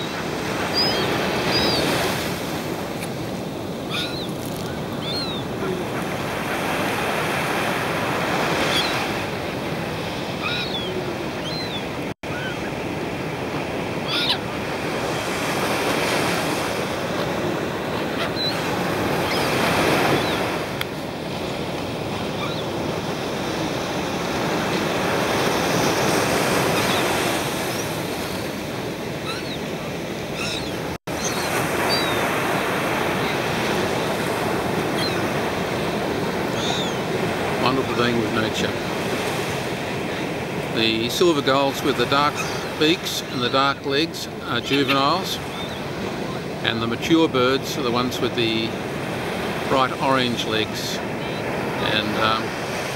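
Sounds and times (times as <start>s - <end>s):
gulls calling: 0.0s - 52.9s
waves washing on sandy beach: 0.0s - 52.9s.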